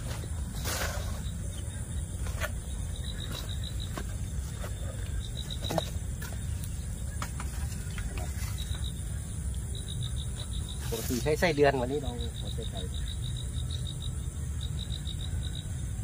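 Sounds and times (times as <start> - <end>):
faint high insect trill: 0.0 - 16.0.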